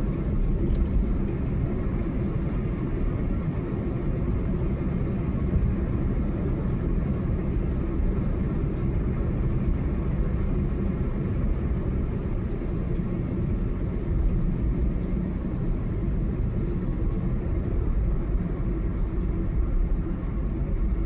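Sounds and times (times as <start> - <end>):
car driving on highway: 0.0 - 21.0.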